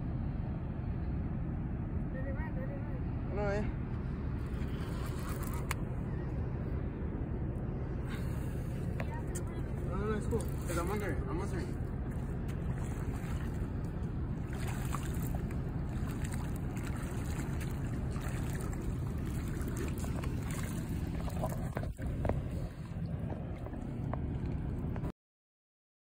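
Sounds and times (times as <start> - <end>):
wind rumble on microphone: 0.0 - 25.1.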